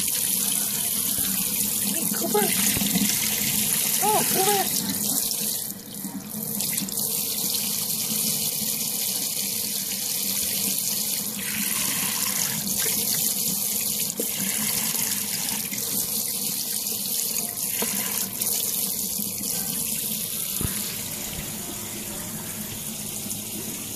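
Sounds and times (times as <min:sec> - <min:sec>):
tap water running into sink: 0:00.0 - 0:23.9.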